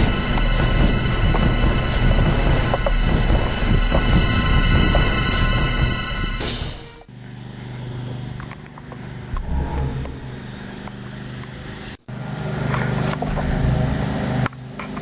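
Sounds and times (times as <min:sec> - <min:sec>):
steady low hum: 0:00.0 - 0:08.1, 0:09.0 - 0:14.8
engine running: 0:00.0 - 0:15.0.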